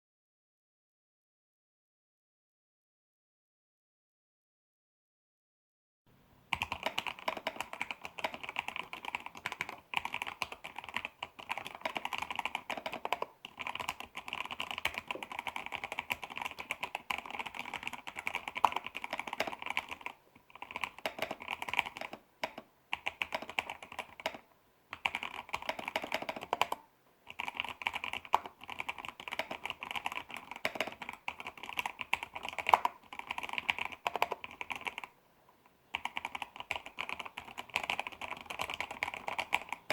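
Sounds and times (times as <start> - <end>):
mechanical keyboard typing: 6.5 - 35.1, 35.9 - 39.9.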